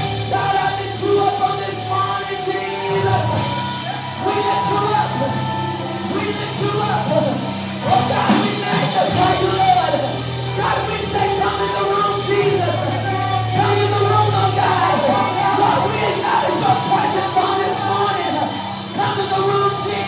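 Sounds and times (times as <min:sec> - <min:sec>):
church band playing: 0:00.0 - 0:20.0
voices singing: 0:00.0 - 0:20.0.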